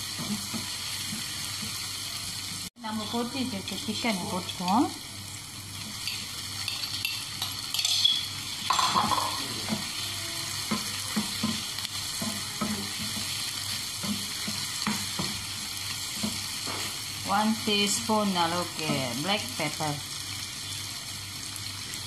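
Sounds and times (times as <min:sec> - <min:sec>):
vegetables sizzling in a frying pan: 0:00.0 - 0:22.0.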